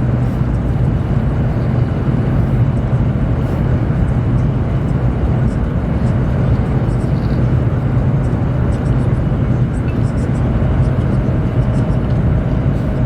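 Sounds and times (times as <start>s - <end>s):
train running at speed: 0.0s - 13.0s.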